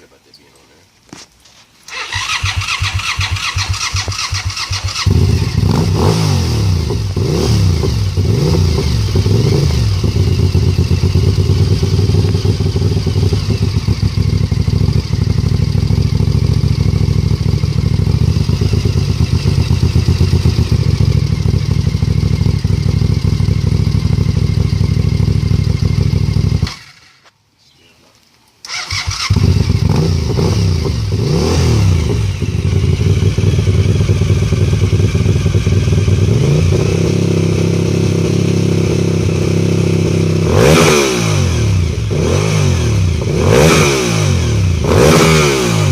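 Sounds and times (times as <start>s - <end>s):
motorcycle engine starting and idling: 1.9s - 27.3s, 28.6s - 45.9s.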